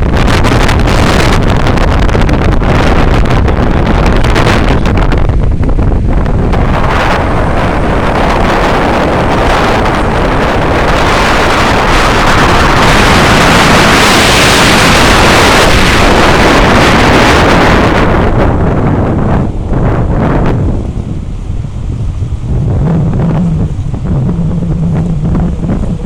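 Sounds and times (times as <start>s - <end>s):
boat moving through water: 0.0s - 26.0s
strong wind on microphone: 0.0s - 26.0s.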